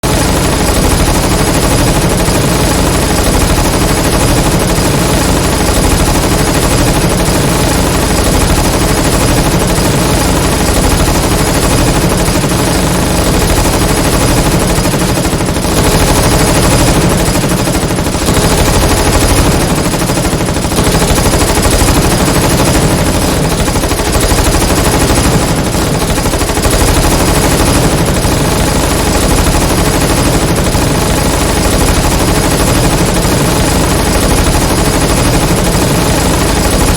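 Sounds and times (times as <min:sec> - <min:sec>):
automatic gunfire: 0:00.0 - 0:36.9.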